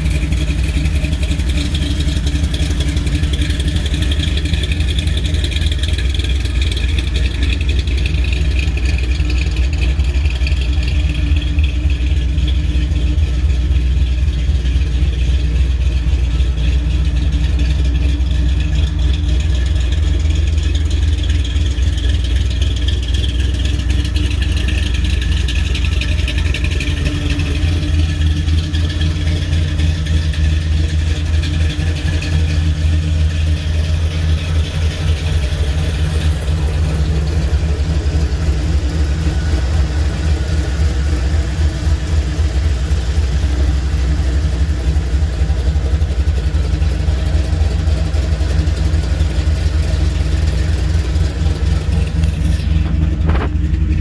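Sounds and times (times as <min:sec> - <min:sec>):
pickup engine idling: 0:00.0 - 0:54.0.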